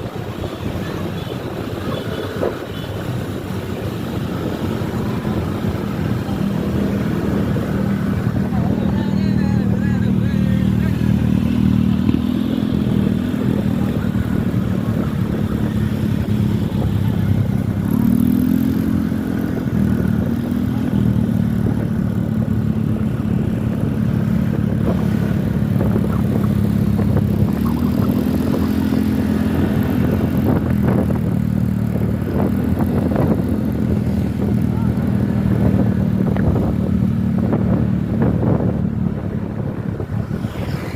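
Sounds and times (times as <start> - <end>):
bus engine humming and revving: 0.0 - 40.9.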